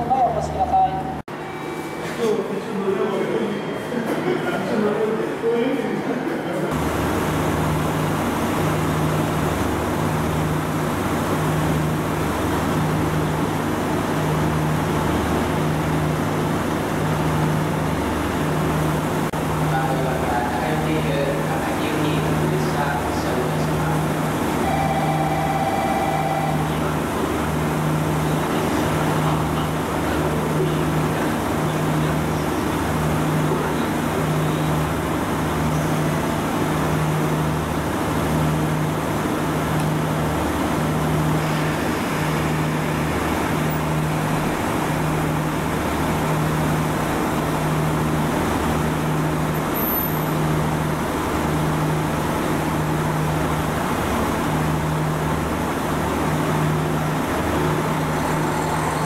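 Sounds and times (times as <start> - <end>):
diesel railcar engines idling: 0.0 - 59.0.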